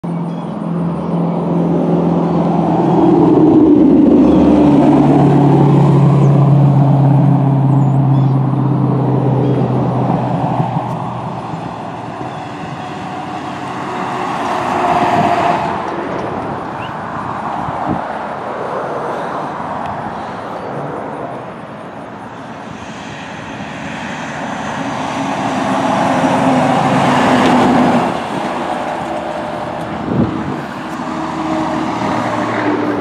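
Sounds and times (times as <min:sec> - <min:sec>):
heavy engine drone: 0:00.0 - 0:33.0
pickup truck passing: 0:00.0 - 0:33.0
road traffic passing: 0:00.0 - 0:33.0.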